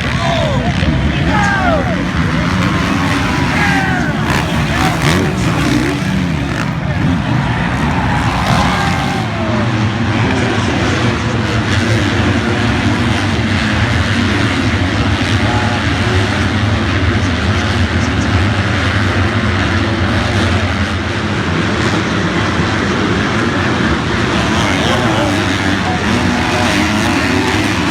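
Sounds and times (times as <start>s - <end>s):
motocross bike engines running: 0.0s - 27.9s.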